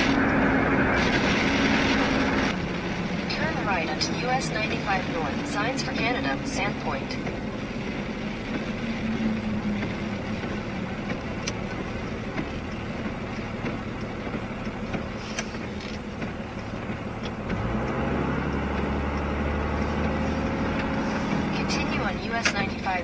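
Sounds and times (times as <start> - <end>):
truck engine accelerating: 0.0 - 23.0
tyre and road noise: 0.0 - 23.0
windshield wipers sweeping: 0.0 - 23.0.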